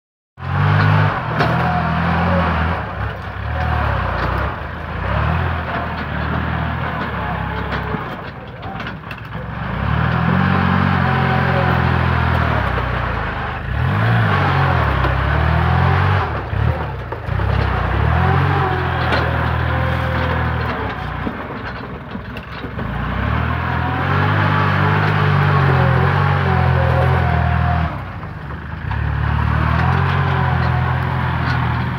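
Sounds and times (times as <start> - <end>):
tractor diesel engine running hard: 0.4 - 31.9.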